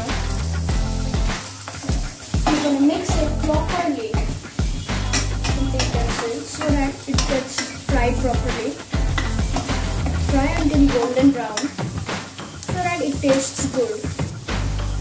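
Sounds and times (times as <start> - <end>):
background music: 0.0 - 15.0
onions sizzling in a wok: 0.0 - 15.0
spatula scraping and tapping pan: 1.3 - 14.2.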